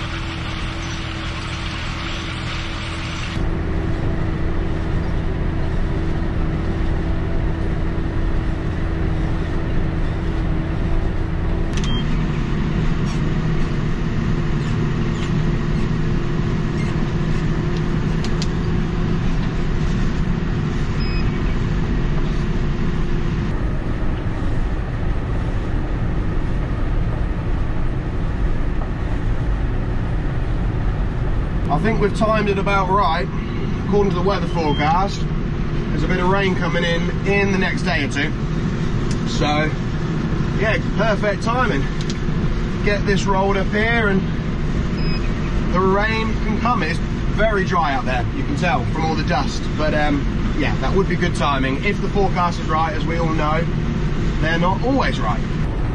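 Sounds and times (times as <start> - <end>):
tractor engine running under load: 0.0 - 55.9.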